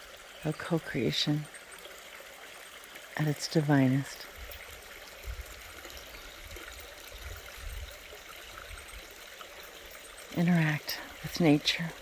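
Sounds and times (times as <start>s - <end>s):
water trickling over rocks: 0.0s - 12.0s.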